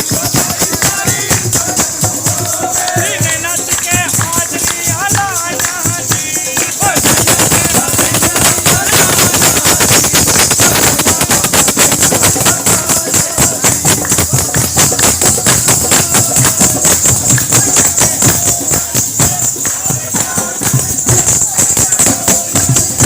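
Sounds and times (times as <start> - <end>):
fast jingling percussion and drumming: 0.0 - 23.0.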